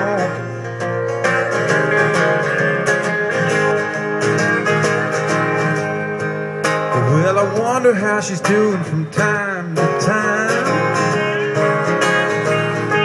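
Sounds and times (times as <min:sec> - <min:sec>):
acoustic guitars strumming: 0:00.0 - 0:13.0.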